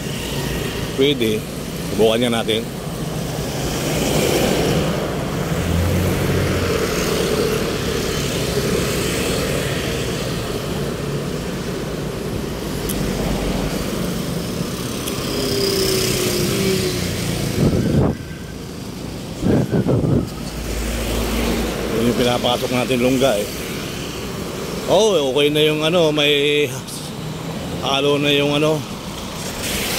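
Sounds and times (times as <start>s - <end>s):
road traffic passing: 0.0s - 29.9s.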